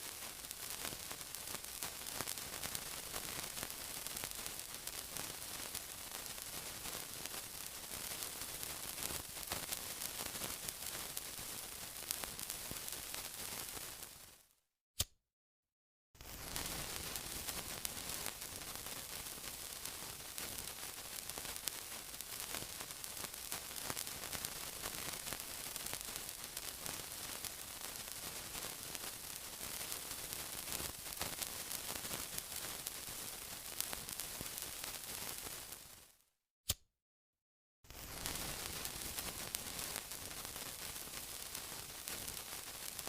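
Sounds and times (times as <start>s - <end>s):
sizzling hiss with fine crackles: 0.0s - 14.5s, 16.2s - 36.2s, 37.9s - 43.0s.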